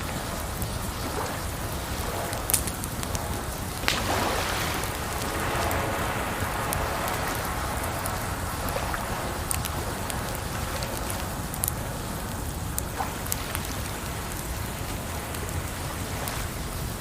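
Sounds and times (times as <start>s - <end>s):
campfire crackling: 0.0s - 17.0s
hiss of water: 0.0s - 17.0s.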